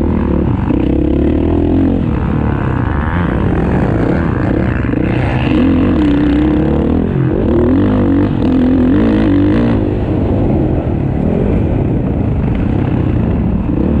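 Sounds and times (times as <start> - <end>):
distant drone of bikes: 0.0 - 14.0
motocross bike engine revving: 0.0 - 14.0.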